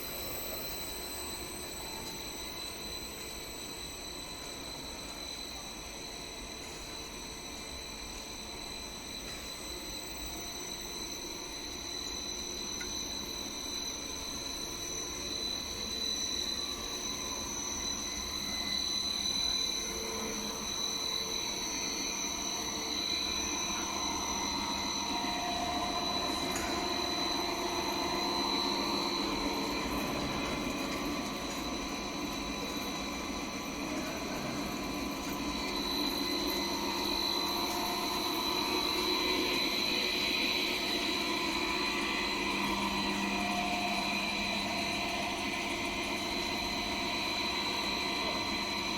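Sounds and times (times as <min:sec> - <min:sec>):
high machine whines: 0:00.0 - 0:48.9
production line machine noise: 0:08.6 - 0:48.9.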